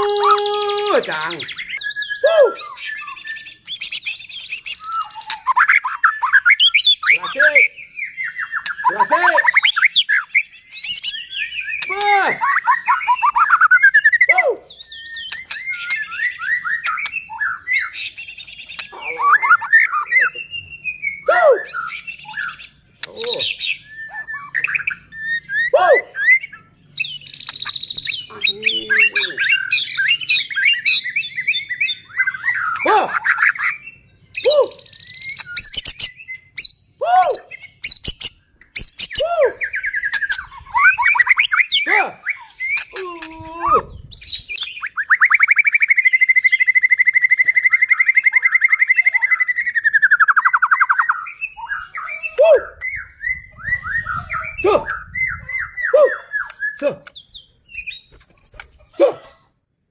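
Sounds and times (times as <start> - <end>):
bird singing whistles and trills: 0.0 - 58.2.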